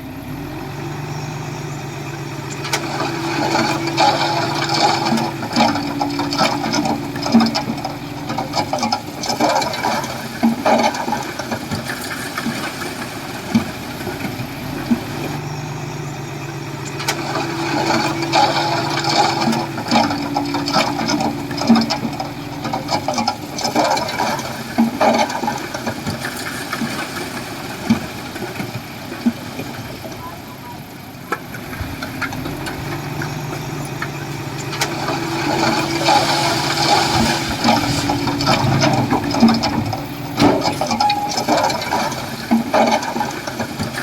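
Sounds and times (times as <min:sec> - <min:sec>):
bulldozer diesel engine under load: 0:00.0 - 0:44.0
tracks clattering and knocking: 0:02.6 - 0:15.4, 0:16.8 - 0:30.1, 0:31.3 - 0:44.0.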